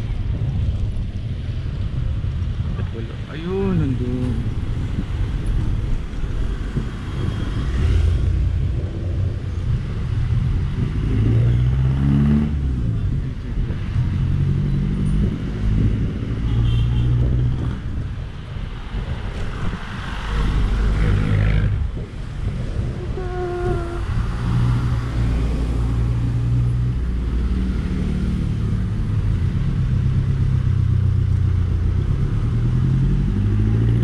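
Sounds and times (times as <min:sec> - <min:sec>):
traffic rumble: 0:00.0 - 0:34.0
vehicle engines: 0:00.0 - 0:34.0.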